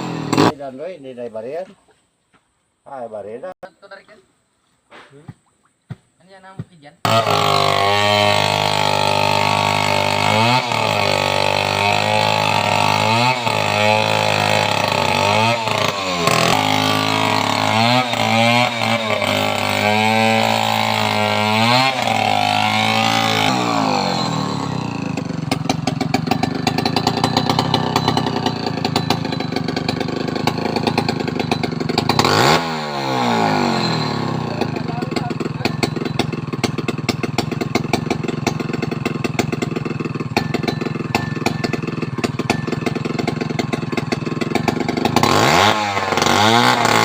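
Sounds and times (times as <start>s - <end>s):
chainsaw cutting wood: 0.0s - 0.6s, 7.0s - 47.0s
chainsaw idling: 0.0s - 0.6s, 7.0s - 47.0s.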